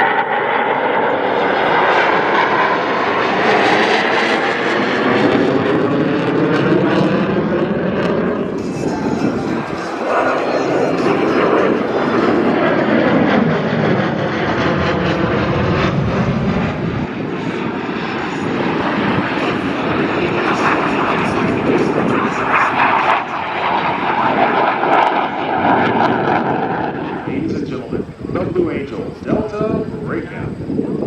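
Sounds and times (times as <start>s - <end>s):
jet engines roaring with crackle: 0.0s - 31.0s.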